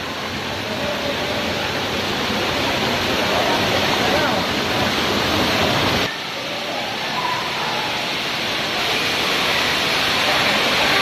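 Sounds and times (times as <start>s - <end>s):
faint voices: 0.0s - 11.0s
waterfall rushing: 0.0s - 11.0s.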